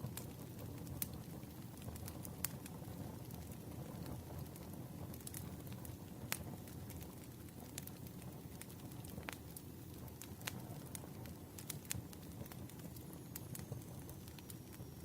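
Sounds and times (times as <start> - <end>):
wood crackling and popping: 0.0 - 15.0.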